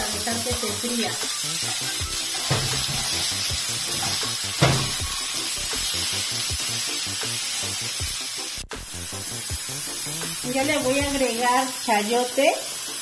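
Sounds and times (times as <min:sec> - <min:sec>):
background music: 0:00.0 - 0:13.0
vegetables sizzling in a skillet: 0:00.0 - 0:13.0.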